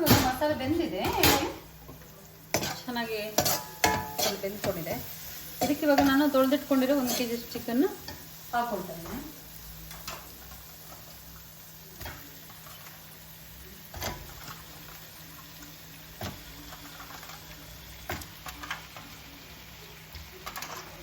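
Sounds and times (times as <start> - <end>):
wet sizzle in a pan: 0.0 - 21.0.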